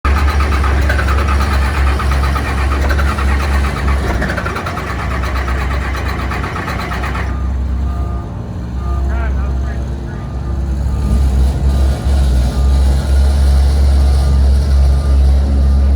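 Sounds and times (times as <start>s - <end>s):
engine rumbling: 0.0s - 15.9s.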